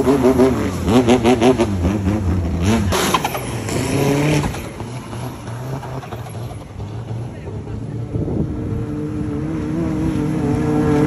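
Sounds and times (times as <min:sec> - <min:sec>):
boat engine running at high revs: 0:00.0 - 0:11.0.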